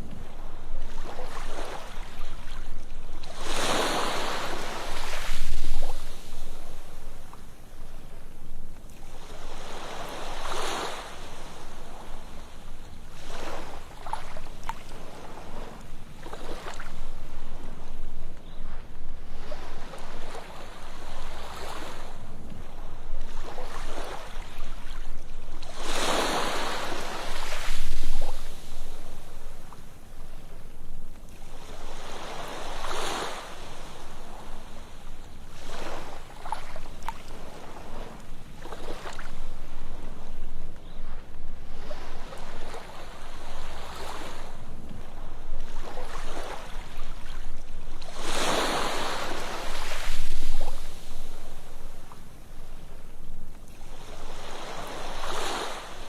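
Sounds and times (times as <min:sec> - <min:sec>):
low rumble of surf: 0:00.0 - 0:56.0
ocean waves breaking on beach: 0:00.0 - 0:56.0.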